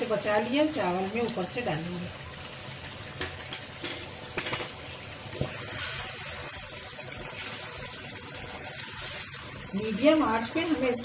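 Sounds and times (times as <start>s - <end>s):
curry bubbling and sizzling in pan: 0.0s - 11.0s.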